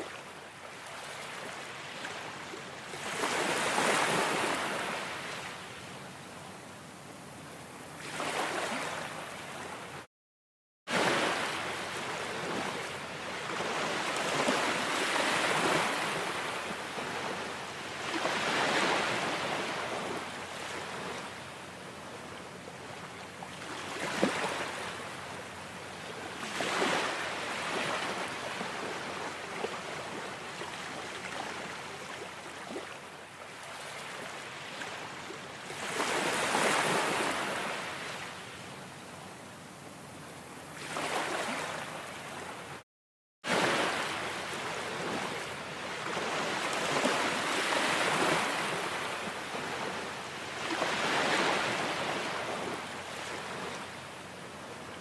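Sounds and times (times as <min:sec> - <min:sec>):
ocean waves washing onto shore: 0:00.0 - 0:10.1, 0:10.9 - 0:39.2, 0:43.5 - 0:55.0.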